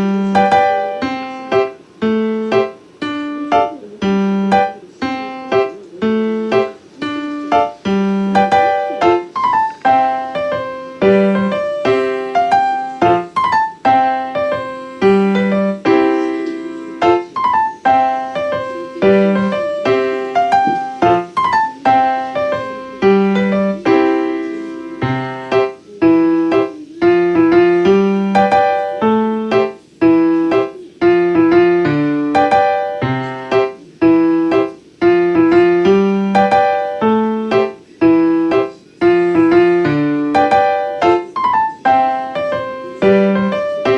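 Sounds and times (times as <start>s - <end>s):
piano music: 0.0s - 43.9s.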